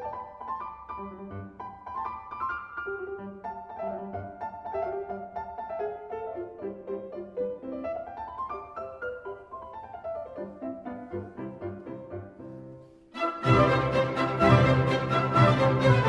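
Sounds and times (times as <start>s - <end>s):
soft solo piano: 0.0s - 12.9s.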